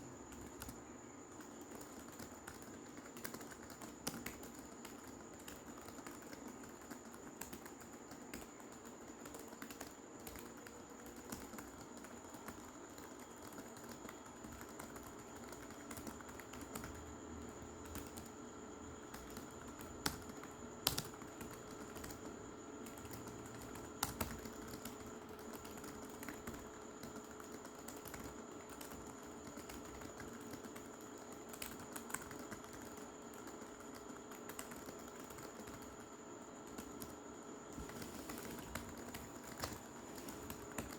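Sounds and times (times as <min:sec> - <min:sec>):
keyboard typing: 0:00.0 - 0:40.9.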